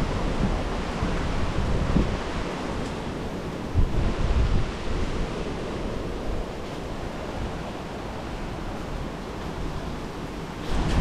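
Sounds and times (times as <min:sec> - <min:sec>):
sea surf on a beach: 0:00.0 - 0:11.0
wind buffeting microphone: 0:00.0 - 0:11.0.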